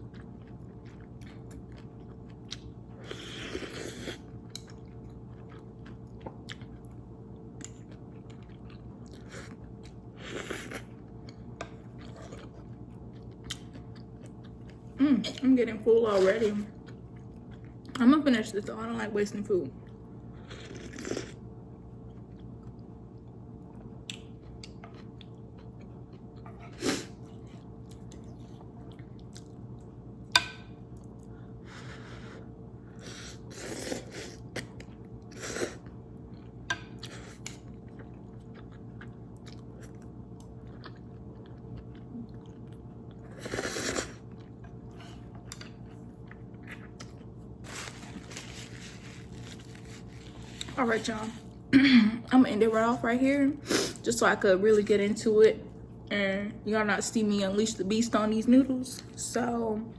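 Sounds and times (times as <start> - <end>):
person chewing noodles: 0.0 - 15.0, 16.7 - 18.0, 19.8 - 51.7
steady low hum: 0.0 - 59.9.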